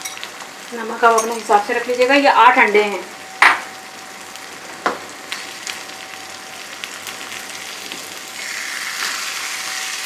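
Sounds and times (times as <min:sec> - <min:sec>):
eggs sizzling in a frying pan: 0:00.0 - 0:10.0.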